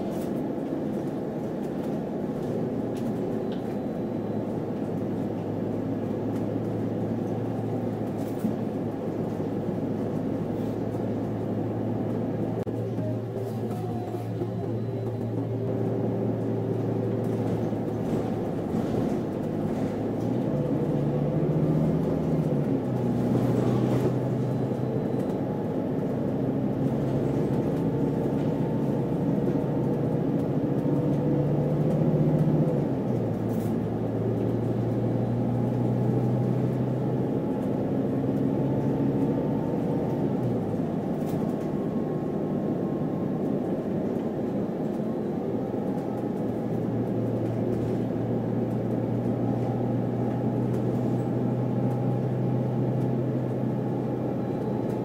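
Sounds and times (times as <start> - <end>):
bus engine droning: 0.0 - 55.0
road rumble: 0.0 - 55.0.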